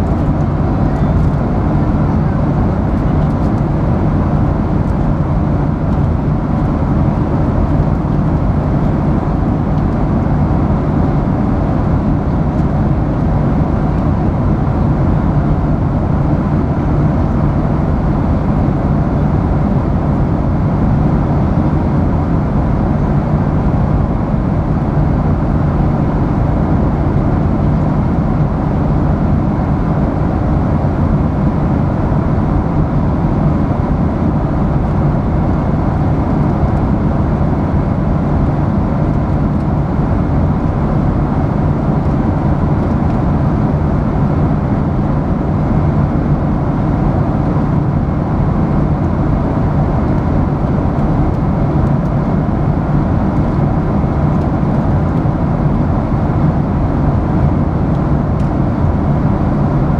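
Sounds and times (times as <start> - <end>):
airliner cabin drone: 0.0 - 59.9.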